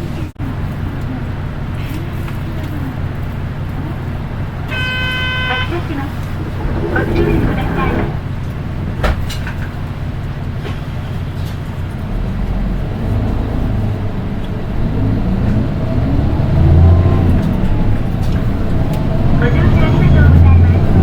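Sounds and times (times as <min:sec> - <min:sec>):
bus diesel engine: 0:00.0 - 0:21.0.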